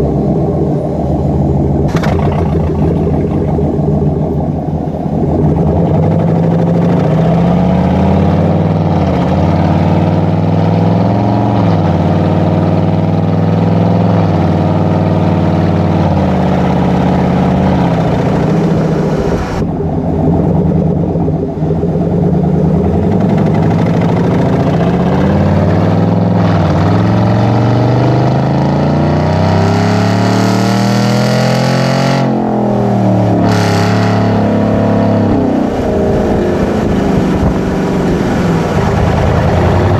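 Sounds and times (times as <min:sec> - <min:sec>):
car exhaust accelerating: 0:00.0 - 0:39.9.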